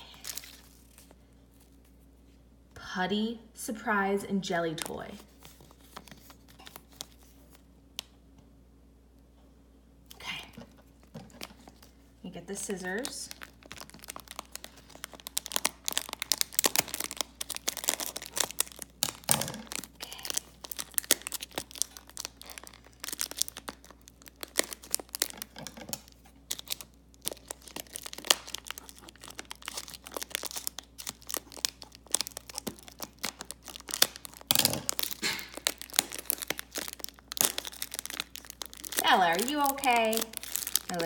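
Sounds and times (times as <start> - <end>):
plastic packaging crinkling and tearing: 0.0 - 2.0, 4.7 - 7.7, 10.3 - 41.0.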